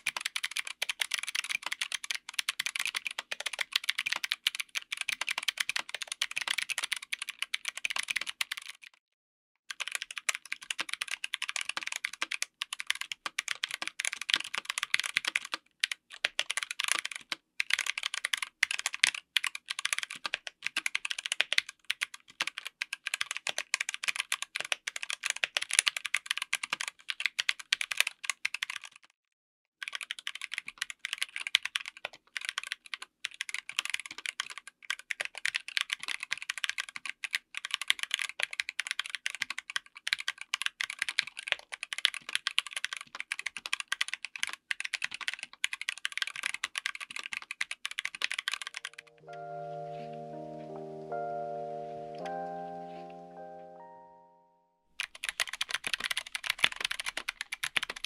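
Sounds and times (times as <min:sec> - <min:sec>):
mechanical keyboard typing: 0:00.0 - 0:09.0, 0:09.7 - 0:29.0, 0:29.8 - 0:49.5, 0:55.0 - 0:58.0.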